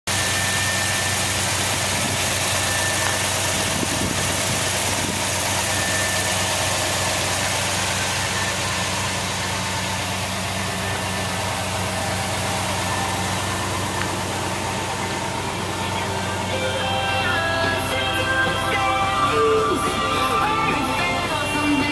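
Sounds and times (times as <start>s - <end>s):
truck engine idling: 0.0s - 21.9s.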